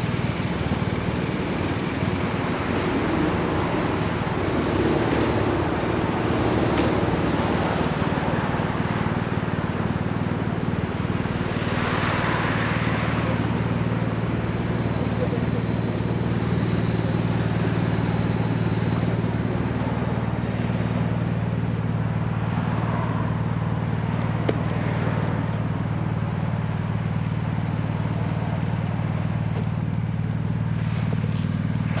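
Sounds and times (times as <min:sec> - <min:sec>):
motorcycle engine idling: 0:00.0 - 0:06.4, 0:07.0 - 0:11.6, 0:12.8 - 0:32.0.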